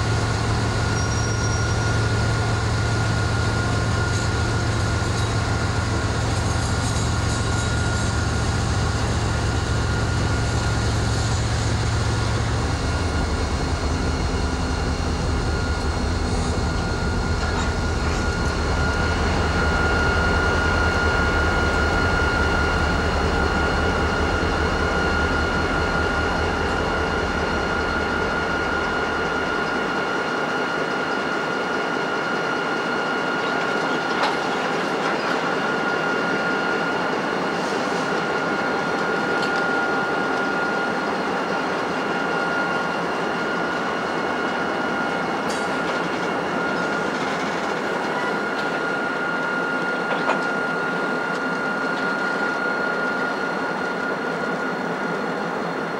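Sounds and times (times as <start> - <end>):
diesel locomotive engine rumble: 0.0 - 55.9
high-pitched whine: 0.0 - 55.9.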